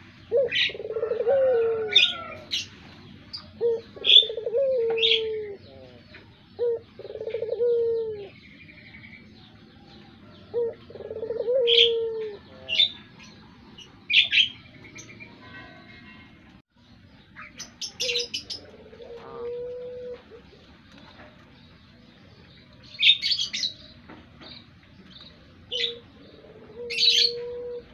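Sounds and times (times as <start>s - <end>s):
dove cooing: 0.0s - 15.2s, 17.4s - 27.9s
small birds chirping: 0.0s - 27.9s.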